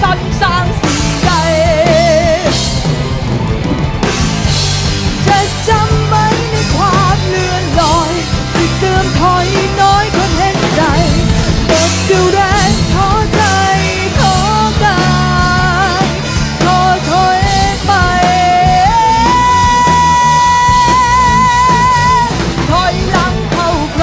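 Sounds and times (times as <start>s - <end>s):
woman singing lead: 0.0s - 3.7s, 4.4s - 24.0s
rock band playing live: 0.0s - 24.0s.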